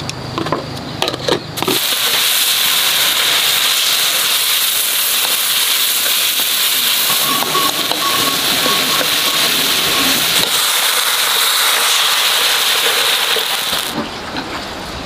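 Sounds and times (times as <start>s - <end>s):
vegetables sizzling in a wok: 1.6s - 14.0s
steam hissing: 1.6s - 14.1s.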